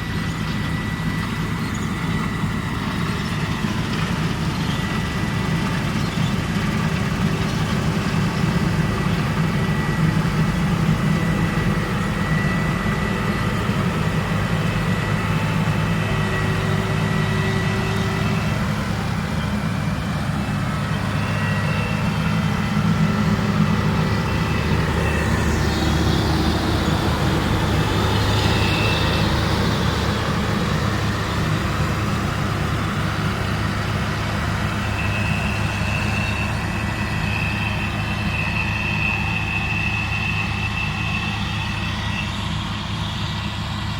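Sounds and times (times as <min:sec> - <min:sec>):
combine harvester running: 0:00.0 - 0:43.9.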